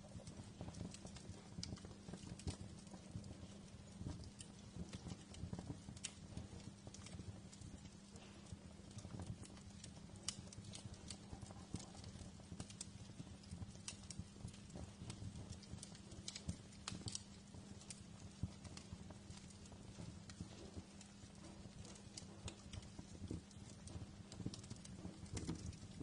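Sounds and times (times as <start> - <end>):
steady low hum: 0.0 - 26.0
wood fire crackling and popping: 0.0 - 26.0.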